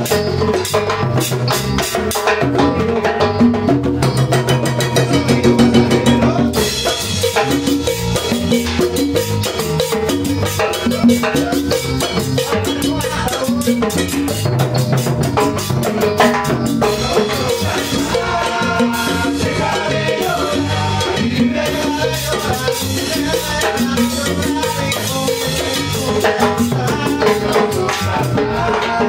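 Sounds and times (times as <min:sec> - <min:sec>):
electric bass: 0:00.0 - 0:29.0
hand-played drums: 0:00.0 - 0:29.0.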